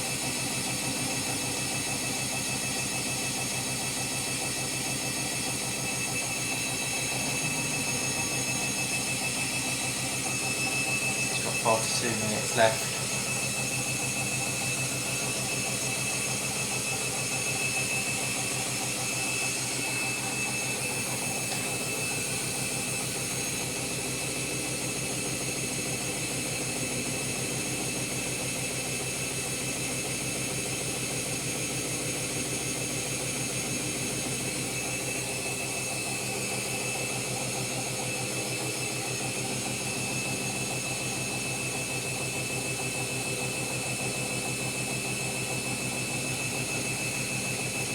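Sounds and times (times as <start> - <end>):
spinning drum whir: 0.0 - 47.9
washing machine motor whine: 0.0 - 47.9.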